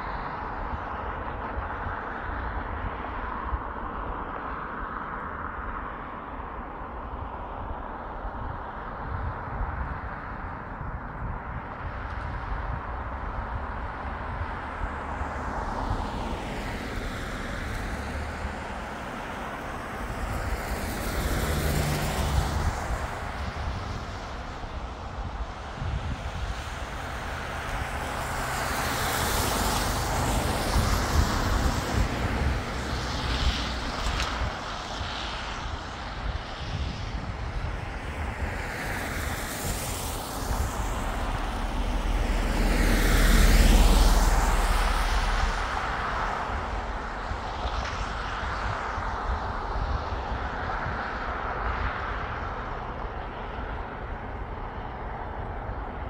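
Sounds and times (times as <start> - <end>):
vehicles passing with rushing sound: 0.0 - 56.0.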